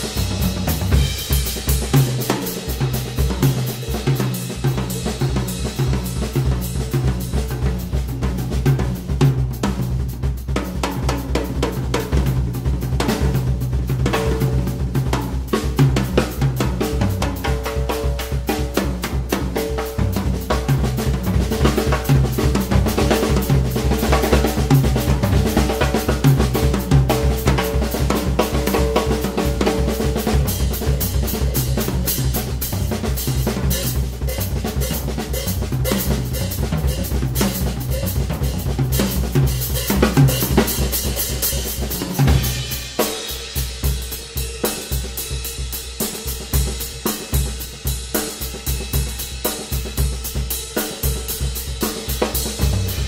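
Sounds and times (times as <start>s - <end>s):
drum kit solo: 0.0s - 53.0s.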